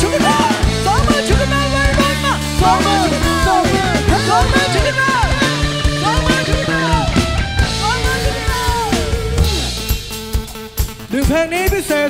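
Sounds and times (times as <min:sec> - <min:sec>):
live band playing upbeat music: 0:00.0 - 0:12.0.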